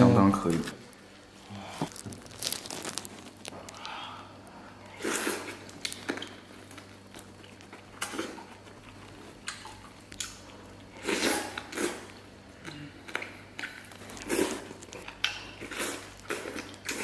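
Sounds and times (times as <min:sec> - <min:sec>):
faint low hum: 0:00.0 - 0:17.0
biting and wet chewing: 0:00.9 - 0:17.0.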